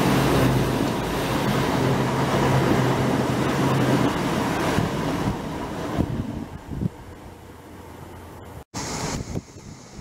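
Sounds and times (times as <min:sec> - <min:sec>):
train wheel rumble: 0:00.0 - 0:10.0.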